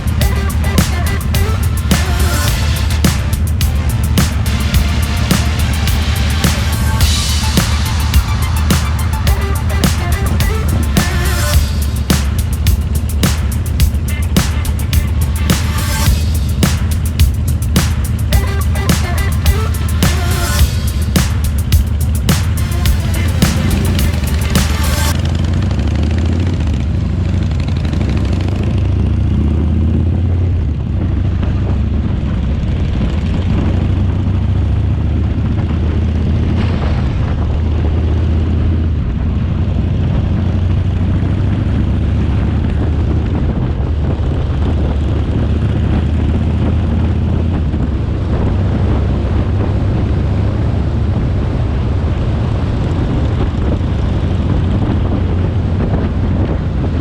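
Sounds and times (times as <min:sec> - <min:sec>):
wind and road rush: 0:00.0 - 0:00.3, 0:10.7 - 0:18.4, 0:19.2 - 0:57.0.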